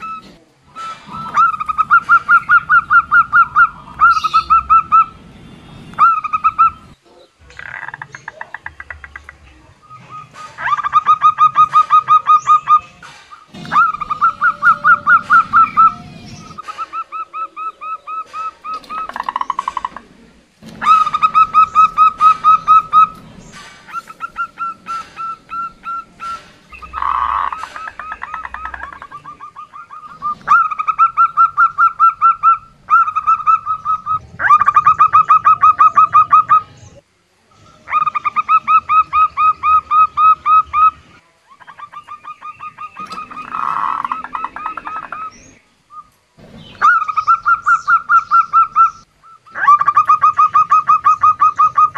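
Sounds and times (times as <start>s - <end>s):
dove cooing: 0.0s - 5.2s, 7.7s - 36.7s, 41.6s - 51.9s.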